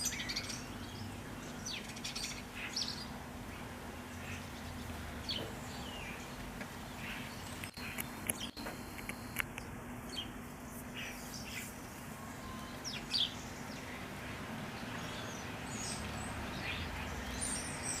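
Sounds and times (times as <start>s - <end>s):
faint low hum: 0.0s - 17.8s
bird chirping: 0.0s - 18.0s
steady hiss: 1.2s - 18.0s.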